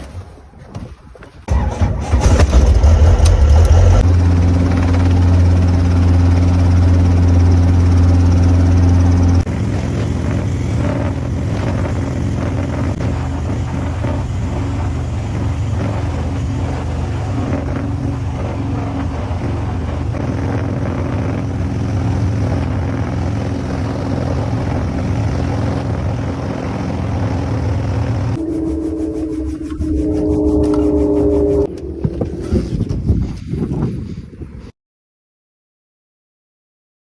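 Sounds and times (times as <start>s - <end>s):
loud engine noise: 1.5s - 33.1s.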